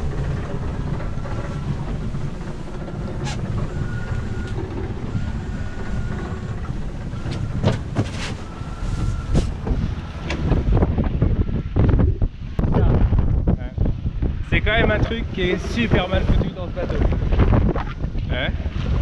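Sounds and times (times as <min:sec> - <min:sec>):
rush of wind and water: 0:00.0 - 0:19.0.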